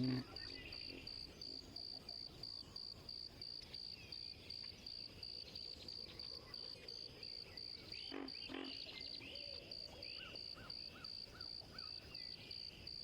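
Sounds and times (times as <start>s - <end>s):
cricket chirping: 0.0s - 13.0s
wetland background noise: 0.0s - 13.0s.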